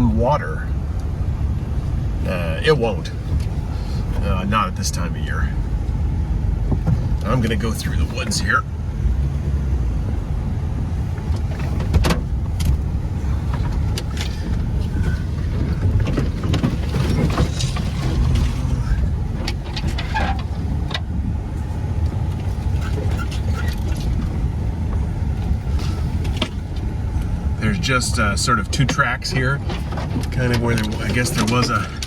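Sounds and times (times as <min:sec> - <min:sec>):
truck engine and tyres rumbling: 0:00.0 - 0:32.0.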